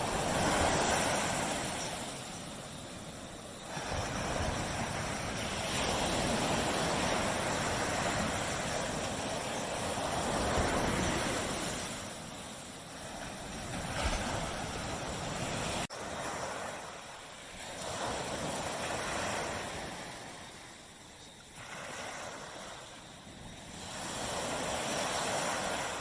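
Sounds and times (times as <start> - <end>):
small waves washing onto beach: 0.0 - 26.0.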